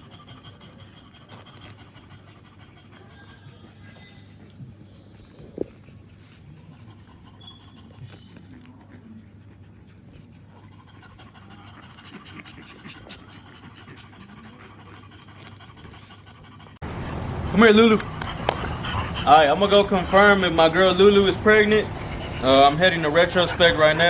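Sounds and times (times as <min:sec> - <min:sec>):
dog panting: 0:00.0 - 0:24.0.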